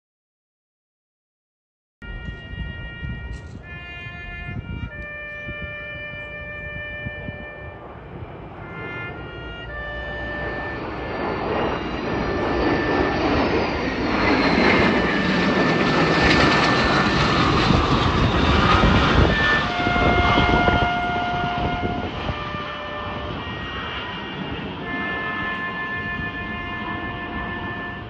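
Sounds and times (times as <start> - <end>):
jet aircraft flying over: 2.0 - 28.0.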